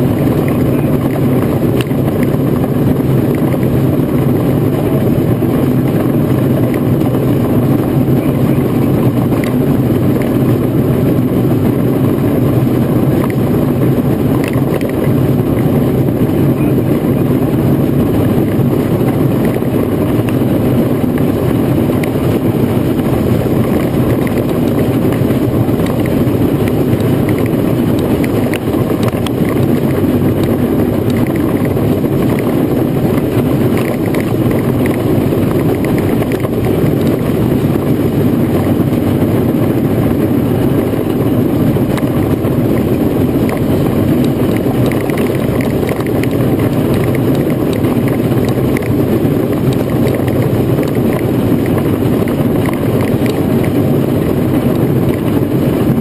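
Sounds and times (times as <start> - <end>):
steam roller rumbling: 0.0 - 56.0.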